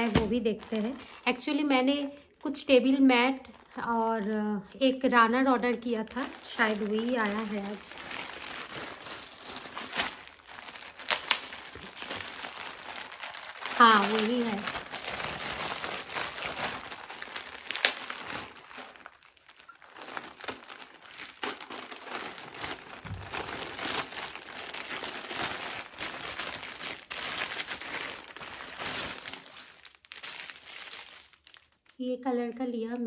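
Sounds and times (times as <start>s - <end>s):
plastic tearing: 0.0s - 2.7s, 5.1s - 32.0s
plastic wrapping crinkling: 0.0s - 33.0s.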